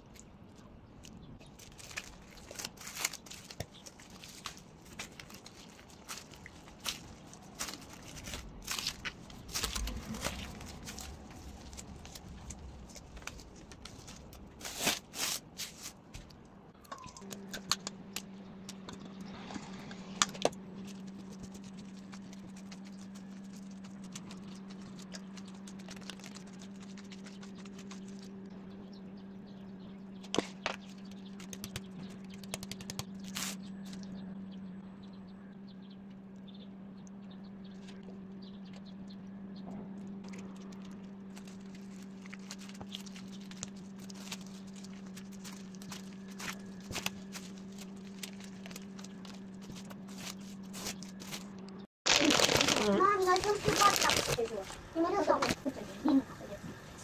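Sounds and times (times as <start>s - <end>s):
sushi mat and plastic wrap rustling: 0.0s - 17.5s, 19.3s - 28.5s, 30.2s - 34.0s, 39.9s - 56.2s
steady low hum: 0.0s - 51.9s.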